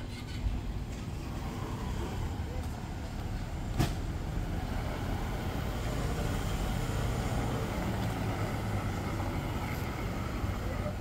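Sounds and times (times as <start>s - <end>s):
engine humming: 0.0s - 11.0s
street noise: 0.0s - 11.0s.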